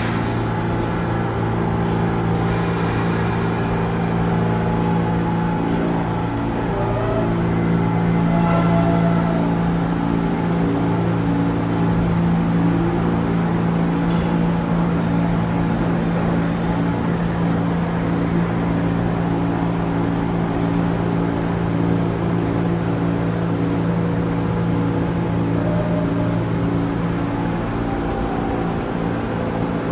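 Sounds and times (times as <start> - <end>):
subway train running: 0.0 - 29.9.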